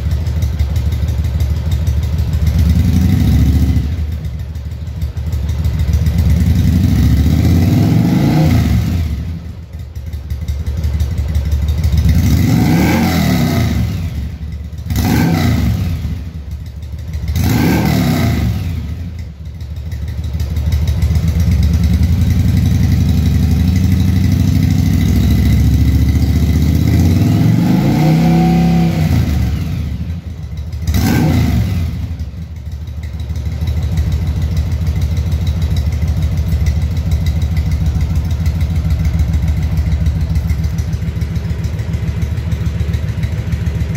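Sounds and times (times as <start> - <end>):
motorcycle engine idling and revving: 0.0 - 43.9.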